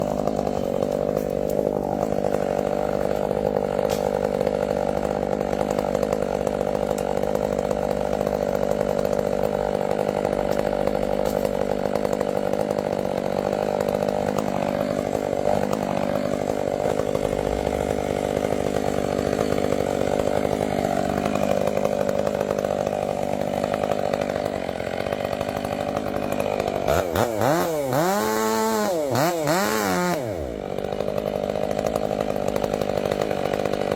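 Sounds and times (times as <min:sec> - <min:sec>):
chainsaw cutting a tree: 0:00.0 - 0:33.9.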